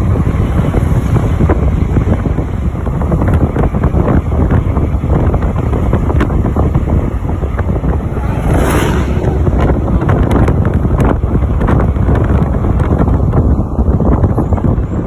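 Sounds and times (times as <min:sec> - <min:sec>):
vehicle rumbling on road: 0:00.0 - 0:15.0
wind buffeting microphone: 0:00.0 - 0:15.0.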